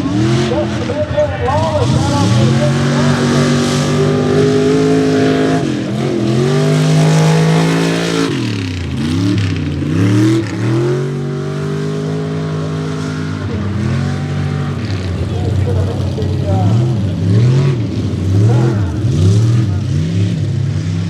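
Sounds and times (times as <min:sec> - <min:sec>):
truck engine at high revs: 0:00.0 - 0:21.0.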